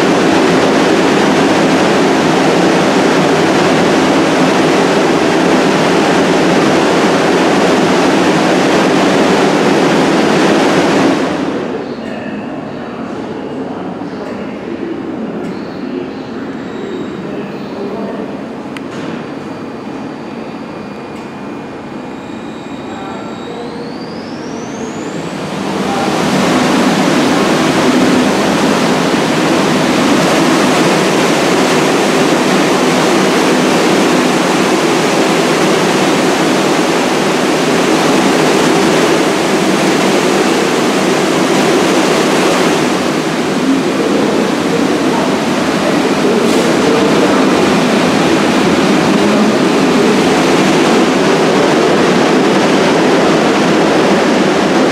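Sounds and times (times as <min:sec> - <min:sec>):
subway train rumbling past: 0:00.0 - 0:54.9.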